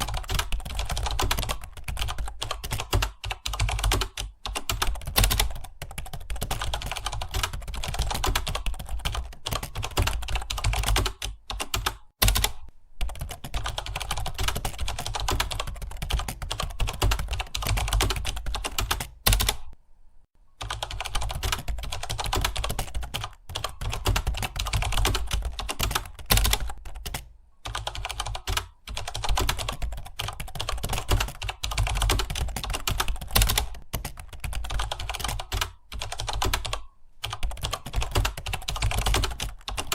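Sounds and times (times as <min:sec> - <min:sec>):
fast keyboard typing: 0:00.0 - 0:19.8, 0:20.6 - 0:39.9.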